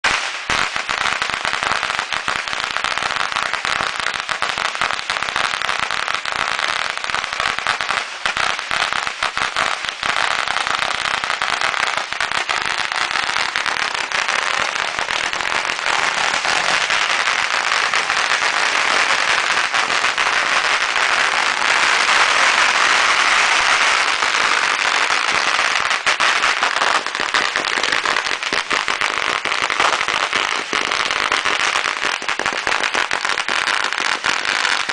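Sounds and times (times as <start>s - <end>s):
fireworks crackling: 0.0s - 34.9s.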